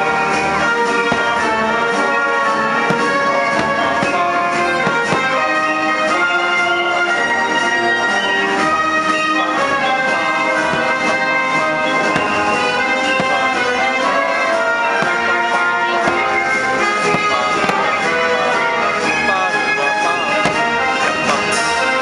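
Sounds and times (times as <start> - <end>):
orchestral music with brass: 0.0 - 22.0.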